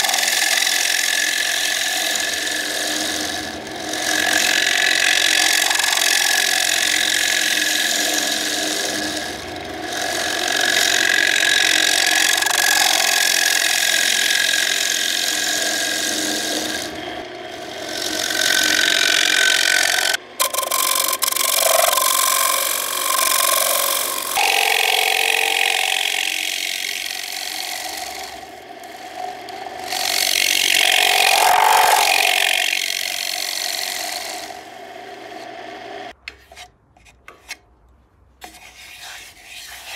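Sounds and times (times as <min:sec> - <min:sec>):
lathe chisel scraping wood: 0:00.0 - 0:37.6.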